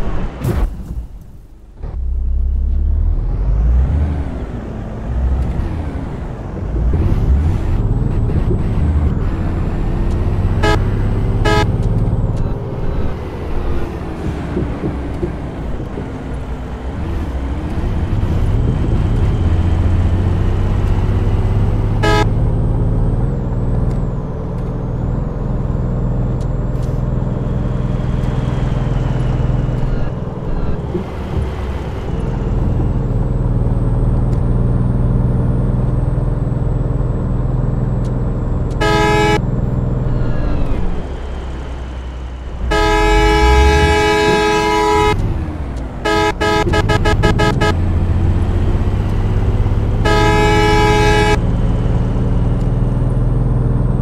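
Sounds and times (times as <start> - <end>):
road noise: 0.0 - 54.0
vehicle engine hum: 0.0 - 54.0.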